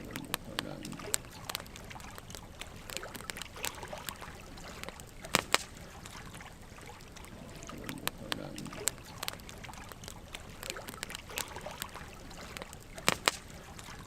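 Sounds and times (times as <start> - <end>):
sharp pops of fire: 0.0 - 14.0
soft steady fire hiss: 0.0 - 14.0
wood fire crackling: 0.0 - 14.0.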